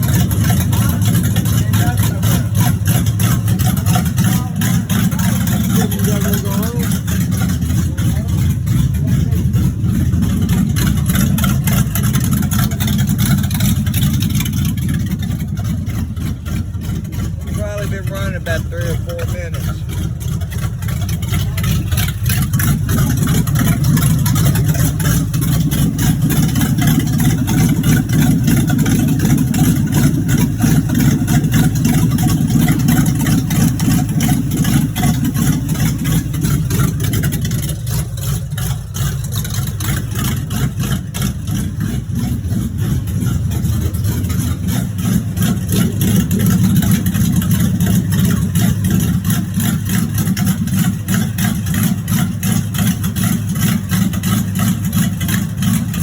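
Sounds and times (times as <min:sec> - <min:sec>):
car engine running with knock: 0:00.0 - 0:56.0.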